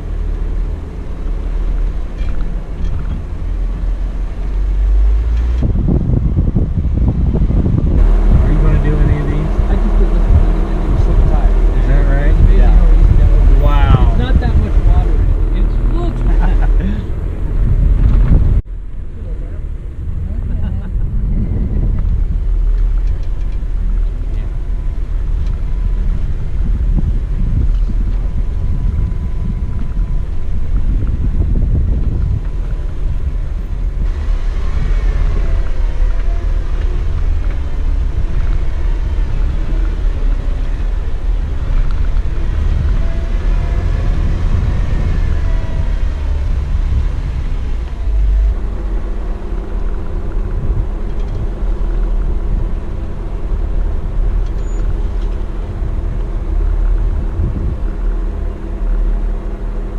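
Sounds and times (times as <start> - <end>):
off-road vehicle engine rumbling: 0.0 - 59.9.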